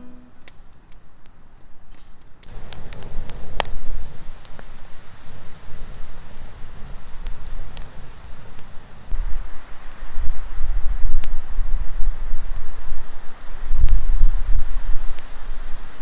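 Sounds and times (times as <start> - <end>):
steady hiss: 2.4 - 16.0
gusty wind on microphone: 2.5 - 16.0.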